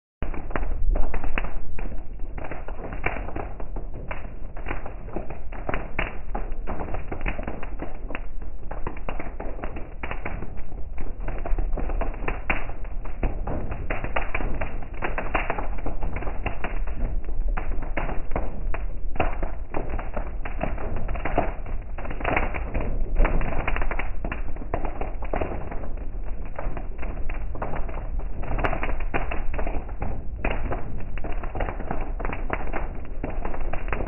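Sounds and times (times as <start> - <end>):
low steady rumble: 0.2 - 34.0
heavy rain on car roof: 1.4 - 34.0.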